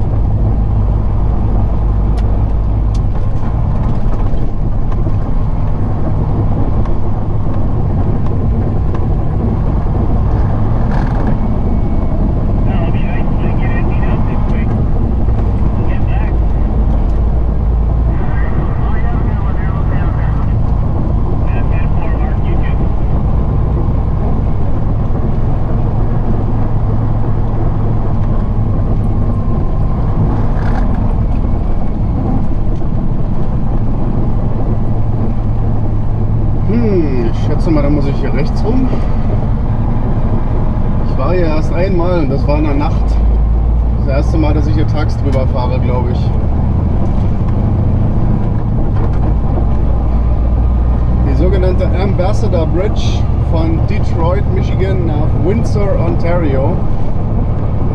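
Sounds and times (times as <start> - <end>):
diesel truck engine rumble: 0.0 - 57.9
road noise: 0.0 - 57.9.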